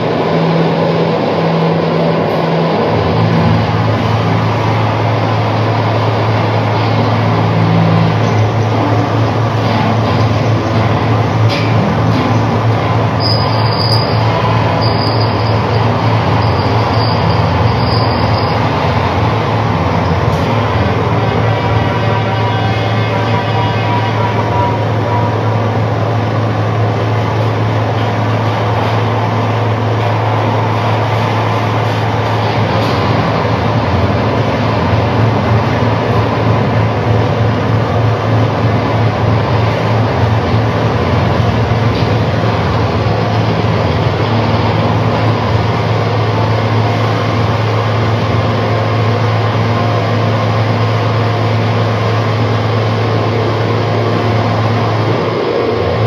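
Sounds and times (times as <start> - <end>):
distorted electric guitar drone: 0.0 - 56.0.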